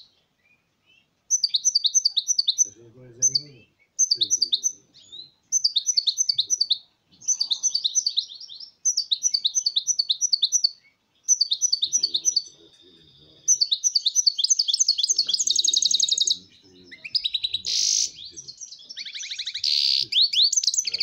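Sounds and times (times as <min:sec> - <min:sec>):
goldfinch twittering song: 0:00.0 - 0:21.0.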